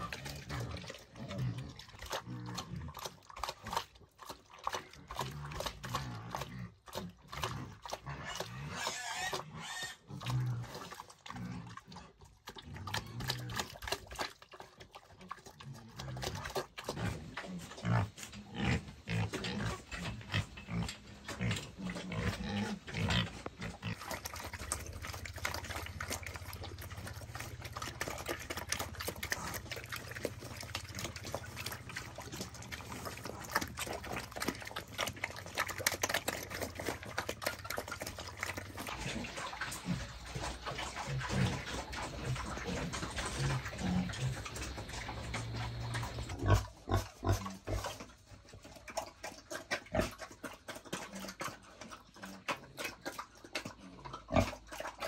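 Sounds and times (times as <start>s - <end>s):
pigs chomping: 0.0s - 55.0s
pigs grunting: 0.0s - 55.0s.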